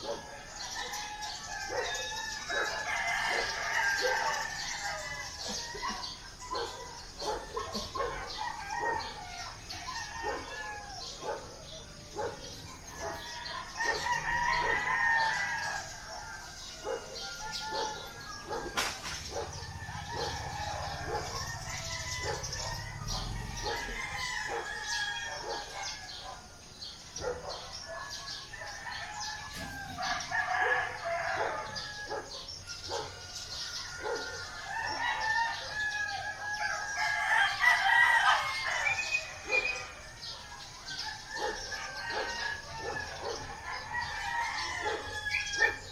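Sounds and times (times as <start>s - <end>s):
chickens clucking and chirping: 0.0s - 45.9s
roosters crowing: 0.0s - 45.9s.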